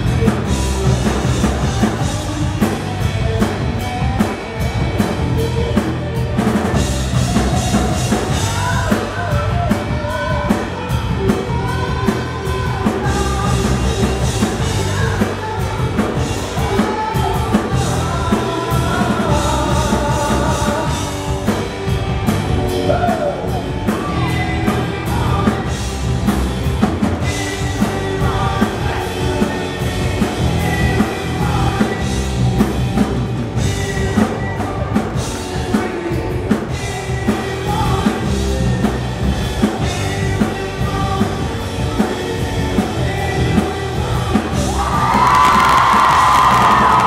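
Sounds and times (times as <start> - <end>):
crowd yelling and cheering: 0.0 - 40.2, 40.8 - 47.0
live rock band playing: 0.0 - 47.0
man singing: 0.0 - 47.0.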